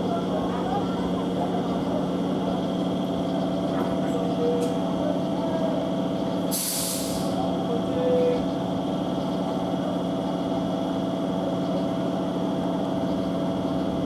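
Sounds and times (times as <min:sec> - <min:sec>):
train equipment humming: 0:00.0 - 0:14.0.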